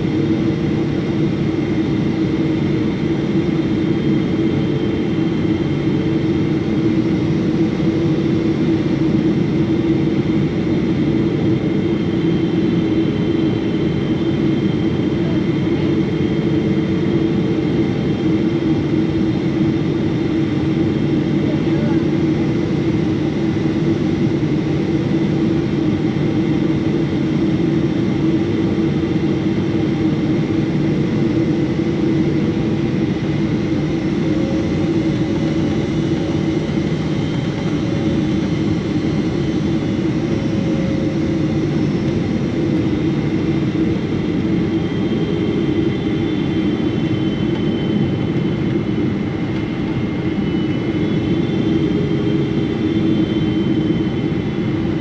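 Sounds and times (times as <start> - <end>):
jet engine hum in cabin: 0.0 - 55.0.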